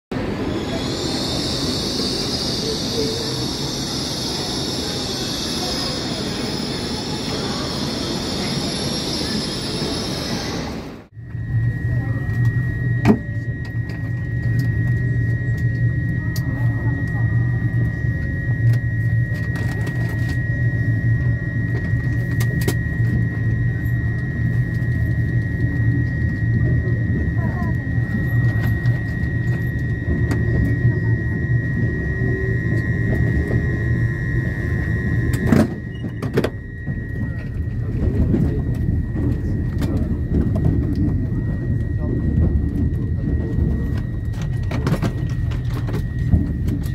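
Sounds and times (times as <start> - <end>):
crowd murmur: 0.1 - 46.9
low hum: 0.1 - 46.9
thin high whine: 0.1 - 46.9
train rumbling on track: 0.1 - 46.9.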